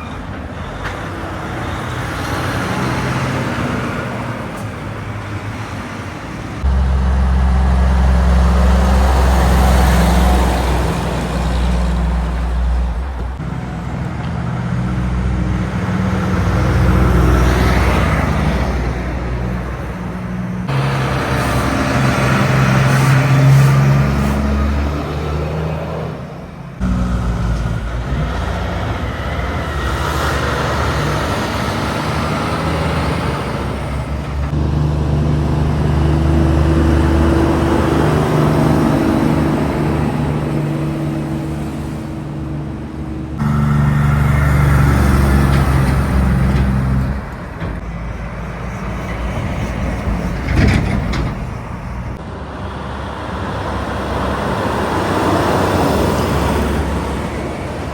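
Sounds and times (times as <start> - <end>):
vehicle engines droning: 0.0 - 57.9.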